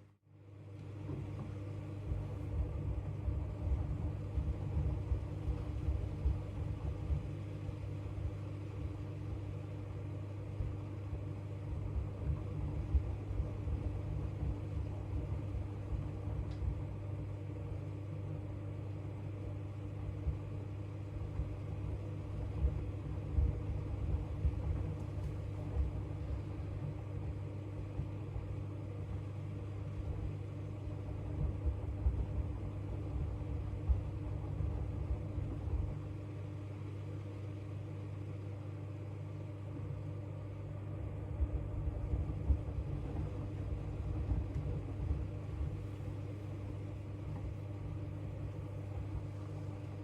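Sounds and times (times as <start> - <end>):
washing machine running: 0.0 - 50.0.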